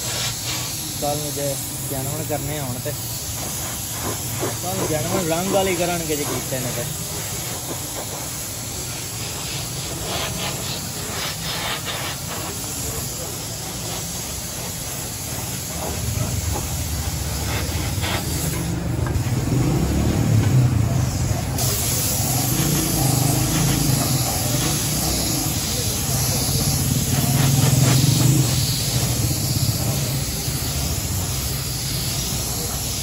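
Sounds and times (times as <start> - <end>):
paint spray gun hissing: 0.0 - 33.0.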